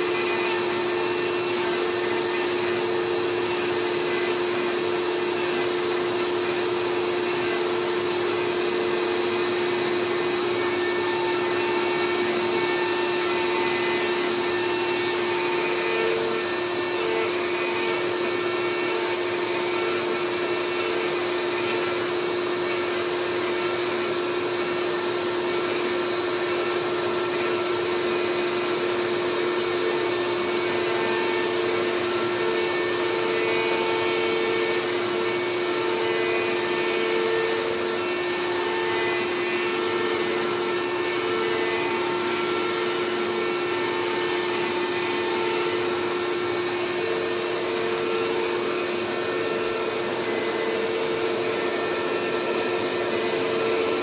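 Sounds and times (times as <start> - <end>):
dust collection vacuum rushing air: 0.0 - 54.0
router spindle whine: 0.0 - 54.0.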